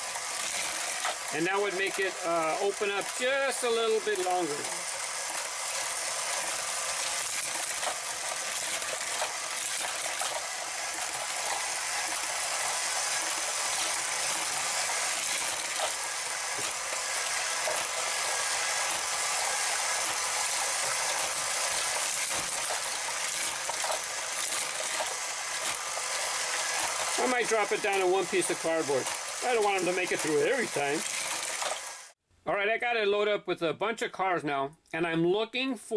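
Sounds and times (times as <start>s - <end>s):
toy cars clicking on track: 0.0s - 32.2s
plastic gear and ratchet clatter: 0.2s - 32.0s.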